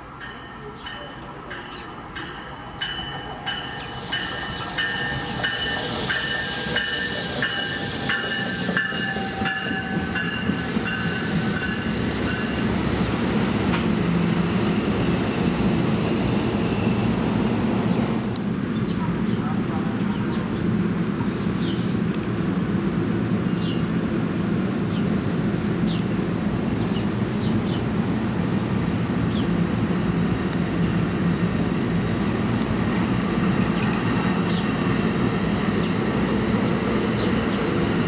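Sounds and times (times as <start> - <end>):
train passing on track: 0.0 - 38.0.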